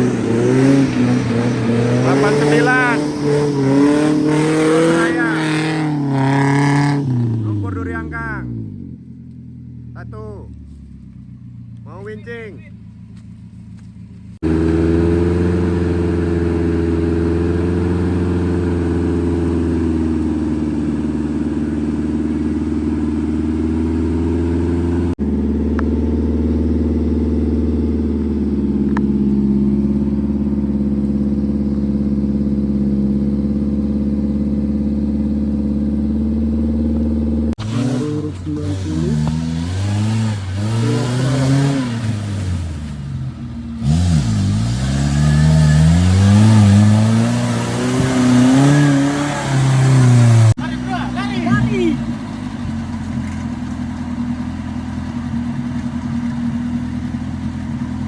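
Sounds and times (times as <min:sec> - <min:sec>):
engine revving: 0:00.0 - 0:13.3, 0:14.4 - 0:58.0.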